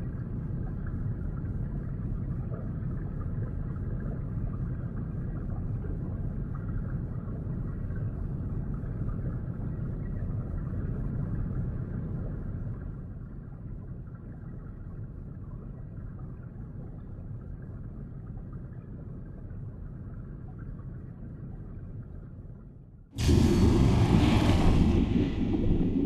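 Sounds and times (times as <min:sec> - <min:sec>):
underwater rumble of water: 0:00.0 - 0:26.0.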